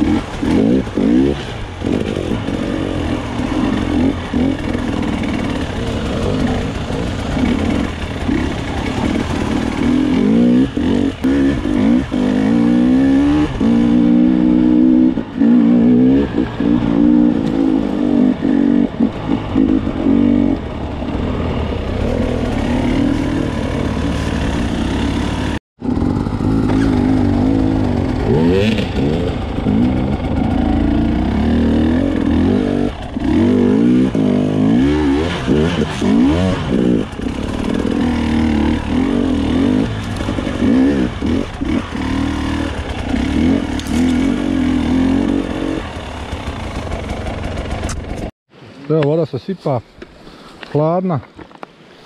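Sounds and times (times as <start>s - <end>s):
motorcycle engine revving: 0.0s - 48.3s.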